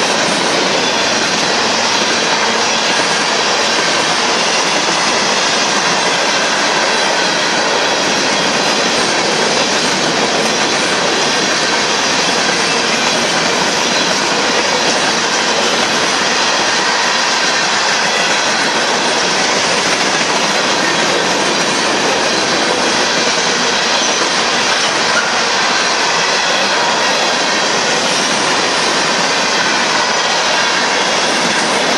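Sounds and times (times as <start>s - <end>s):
train wheels rolling on rails: 0.0s - 31.9s.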